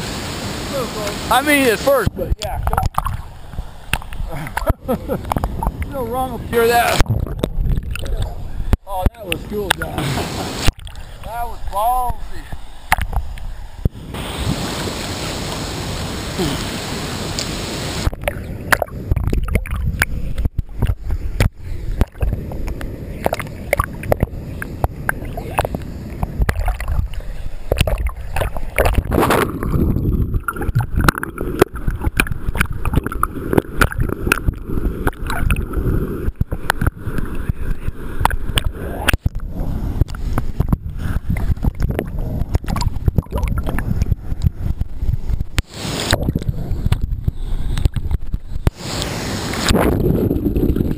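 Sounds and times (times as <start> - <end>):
creek water sloshing and gurgling: 0.0 - 50.9.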